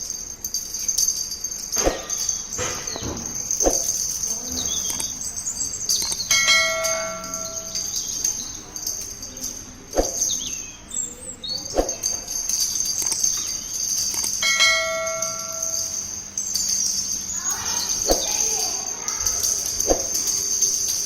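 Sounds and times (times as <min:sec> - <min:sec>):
bell ringing: 0:00.0 - 0:21.0.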